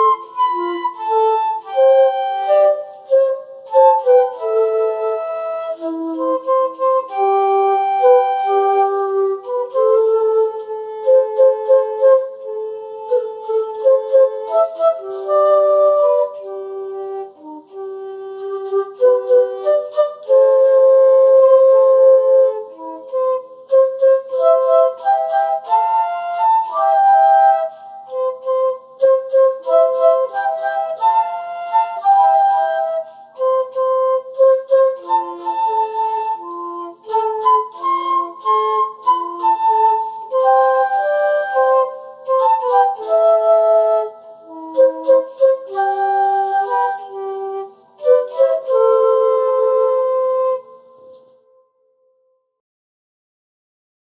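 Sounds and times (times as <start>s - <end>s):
flute duet: 0.0s - 52.1s.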